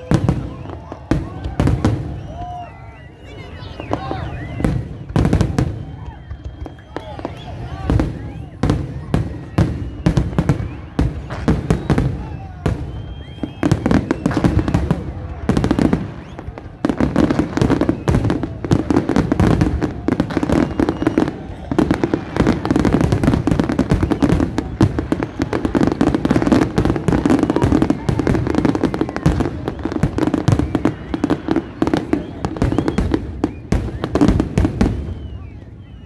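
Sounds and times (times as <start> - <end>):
crowd voices: 0.0 - 36.0
fireworks bangs and crackle: 0.0 - 36.0.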